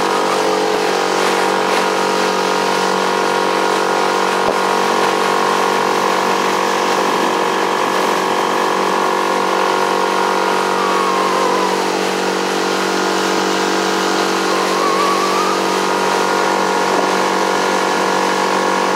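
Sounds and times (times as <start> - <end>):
outboard motor running: 0.0 - 18.9.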